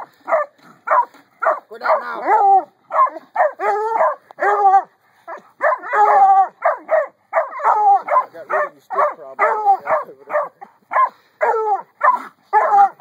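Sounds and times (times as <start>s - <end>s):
dogs baying: 0.0s - 13.0s.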